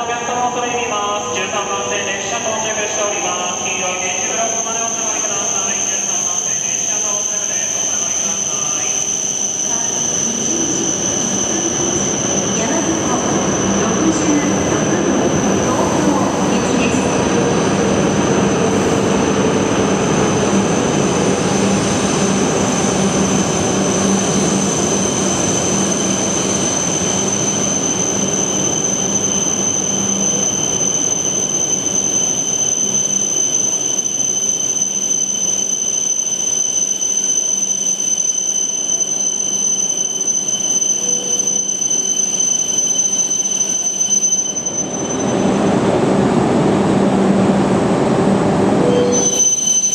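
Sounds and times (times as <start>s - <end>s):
high-pitched train whine: 0.0s - 49.9s.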